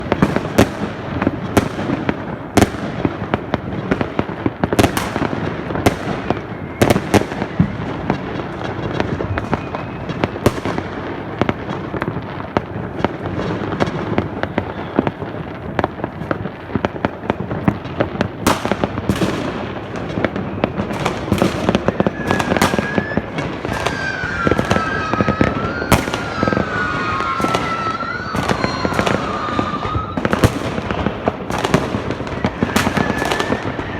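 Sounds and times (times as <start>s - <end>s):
firecrackers crackling: 0.0s - 33.9s
firework bangs: 0.0s - 33.9s
firework whistle: 4.0s - 16.4s, 17.7s - 33.9s.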